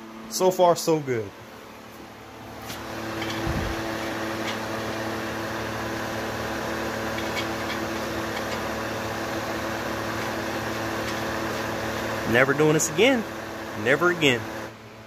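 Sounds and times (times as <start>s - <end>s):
fan machine humming: 0.0s - 15.0s.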